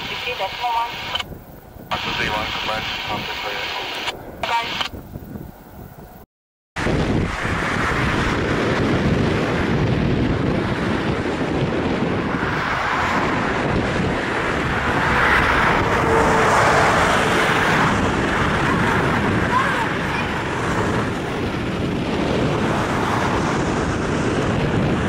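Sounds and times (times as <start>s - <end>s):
wind buffeting microphone: 0.0s - 6.2s, 6.8s - 25.0s
jet engine noise: 0.0s - 25.0s.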